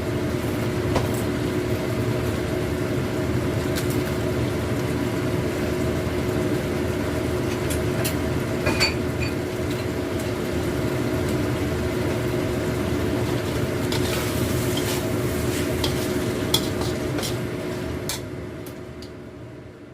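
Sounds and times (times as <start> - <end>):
food sizzling in a pan: 0.0 - 19.3
steady hum: 0.0 - 19.9.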